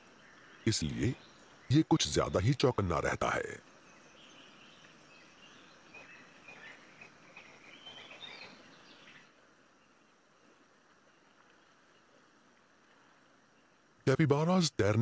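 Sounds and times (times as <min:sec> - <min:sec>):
soft bird chirps: 0:00.0 - 0:13.9.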